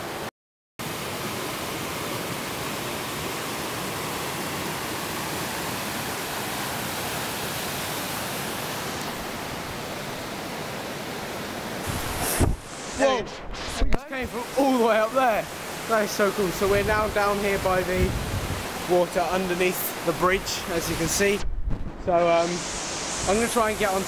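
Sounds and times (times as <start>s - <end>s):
river rushing over rocks: 0.1s - 13.2s, 14.1s - 21.4s.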